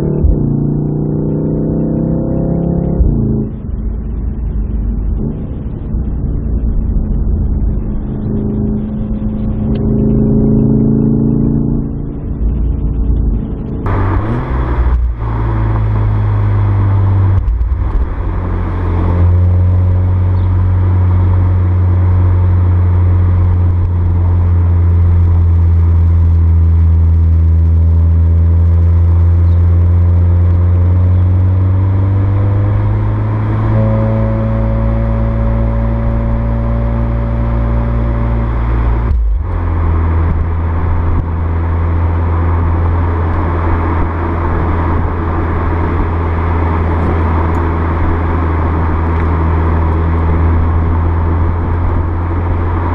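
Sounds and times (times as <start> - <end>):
car engine and exhaust running: 0.0 - 52.9.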